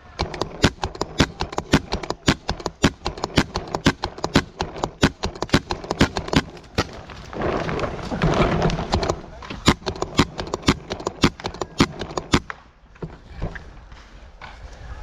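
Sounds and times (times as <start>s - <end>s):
paintball guns popping: 0.0s - 7.5s, 8.5s - 13.2s.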